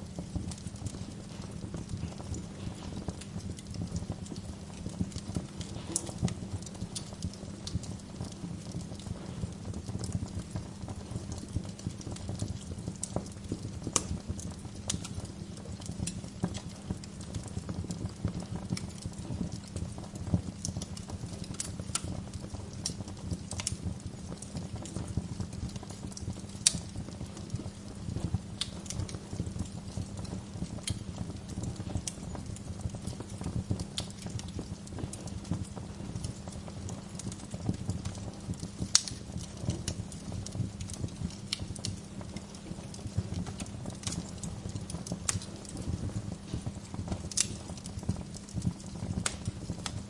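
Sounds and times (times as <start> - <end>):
fire rumbling: 0.0 - 50.0
logs crackling and popping: 0.0 - 50.0.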